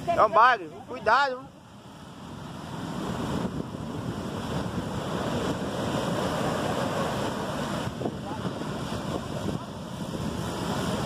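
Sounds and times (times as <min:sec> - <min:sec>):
surf washing up sand: 0:00.0 - 0:11.0
wind on microphone: 0:00.0 - 0:11.0.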